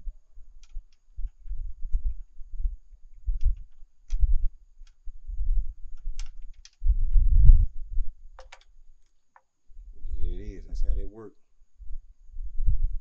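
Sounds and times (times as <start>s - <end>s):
wind buffeting microphone: 0.0s - 8.4s, 9.8s - 11.2s, 11.8s - 13.0s.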